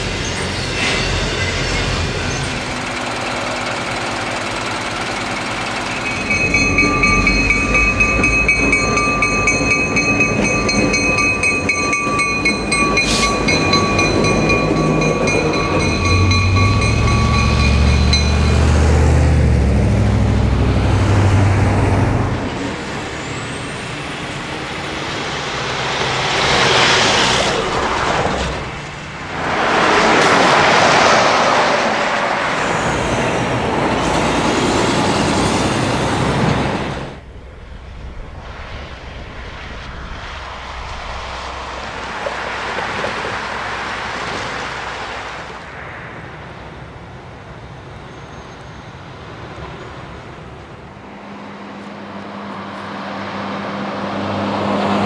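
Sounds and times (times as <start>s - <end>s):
trucks passing at speed: 0.0s - 48.1s, 49.1s - 55.0s
slow traffic rumble: 0.0s - 55.0s.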